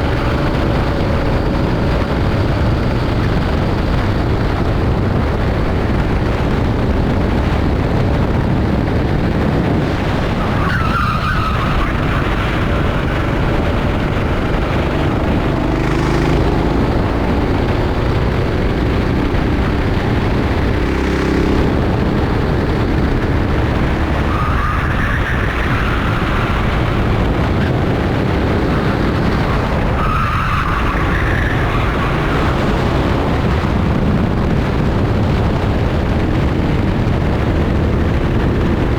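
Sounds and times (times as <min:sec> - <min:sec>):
kart engines running: 0:00.0 - 0:38.9.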